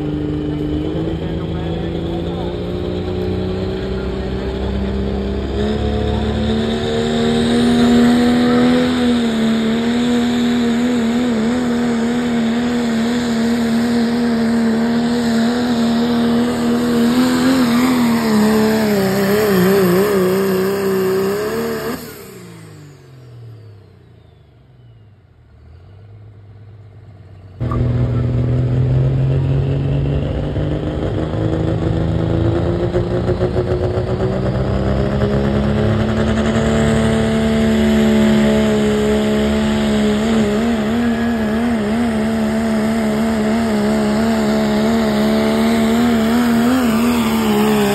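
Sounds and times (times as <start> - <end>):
diesel truck engine revving high: 0.0 - 23.9, 27.6 - 47.9.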